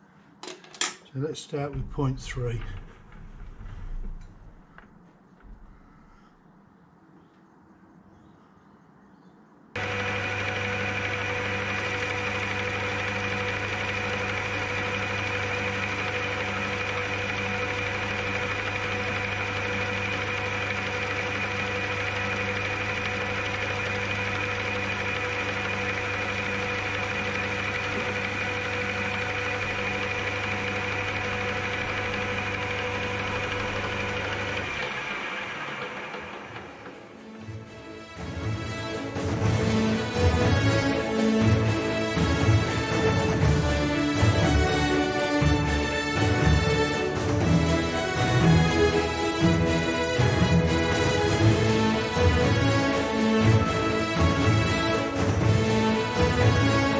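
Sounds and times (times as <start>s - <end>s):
lathe motor and gearing whine: 9.8s - 56.9s.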